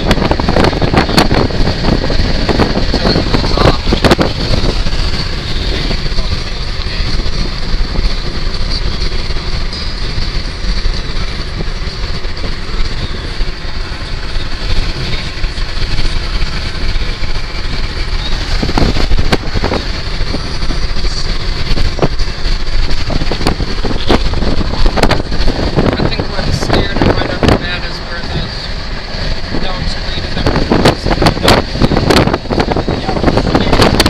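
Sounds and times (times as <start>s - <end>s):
wind buffeting the microphone: 0.0s - 34.0s.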